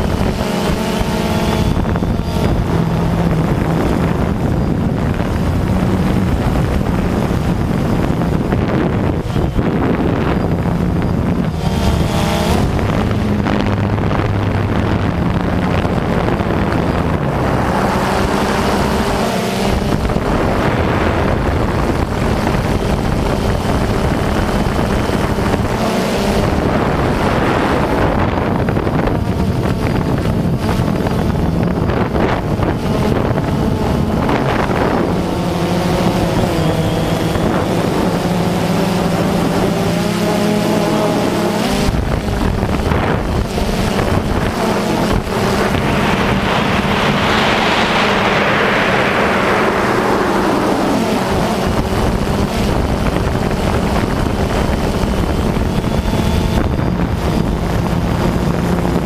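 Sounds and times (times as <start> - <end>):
drone motors whining: 0.0 - 28.7, 32.6 - 53.7
wind buffeting microphone: 0.0 - 59.0.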